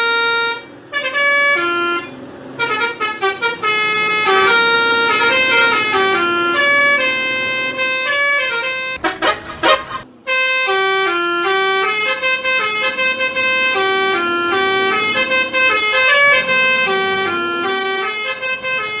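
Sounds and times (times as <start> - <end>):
musical bus horn playing a tune: 0.0 - 19.0.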